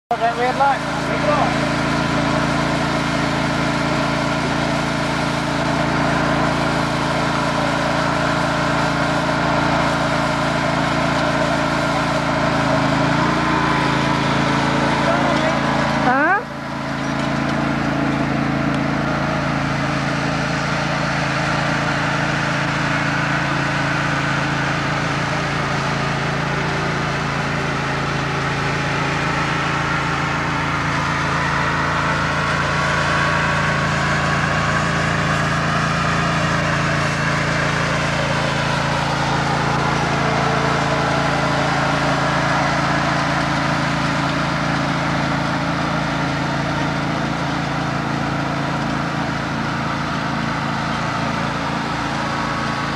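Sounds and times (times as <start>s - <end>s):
lawn mower engines droning: 0.1s - 52.9s.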